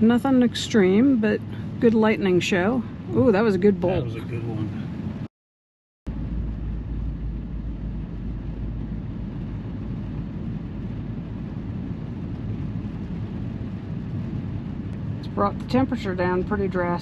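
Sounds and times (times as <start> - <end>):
car road and engine rumble: 0.0 - 5.3, 6.1 - 17.0.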